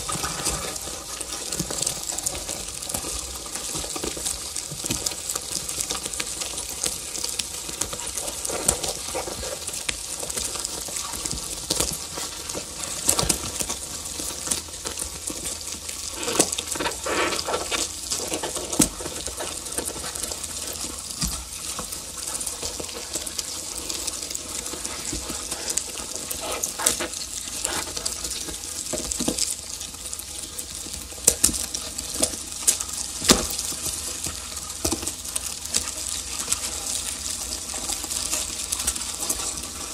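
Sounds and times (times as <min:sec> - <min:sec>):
hissing crackling electronic noise: 0:00.0 - 0:39.9.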